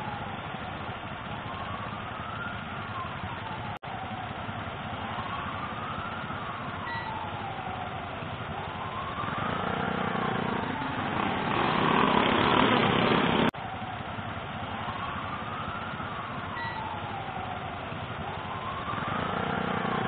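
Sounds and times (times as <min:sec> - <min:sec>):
motorcycle engines idling: 0:00.0 - 0:09.2, 0:09.9 - 0:20.0
vehicle engine noise: 0:00.0 - 0:20.0.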